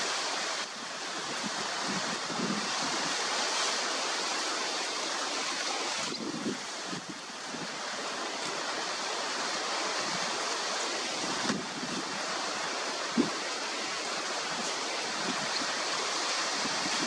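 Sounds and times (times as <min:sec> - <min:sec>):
rushing wind: 0:00.0 - 0:17.0.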